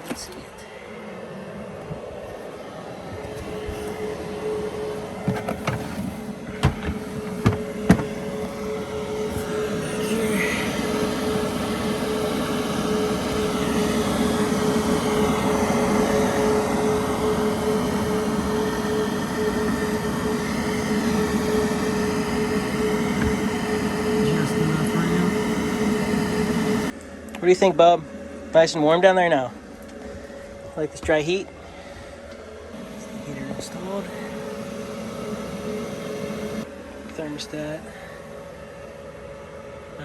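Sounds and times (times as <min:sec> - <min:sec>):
air heater droning hum: 0:00.0 - 0:40.0
fan whine: 0:00.0 - 0:40.0.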